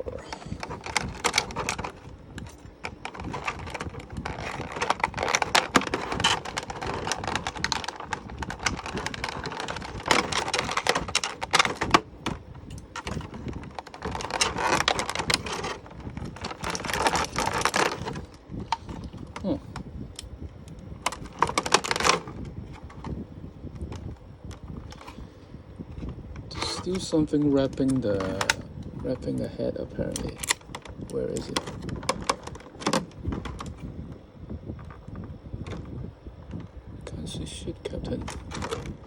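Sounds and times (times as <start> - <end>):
plastic toy packaging rustling: 0.0 - 19.9, 20.7 - 25.3, 25.9 - 33.9, 34.7 - 36.7, 37.8 - 39.0.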